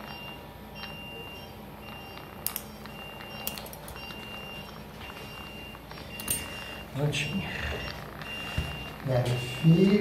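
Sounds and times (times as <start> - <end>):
low equipment hum: 0.0 - 10.0
patient monitor beeping: 0.0 - 10.0.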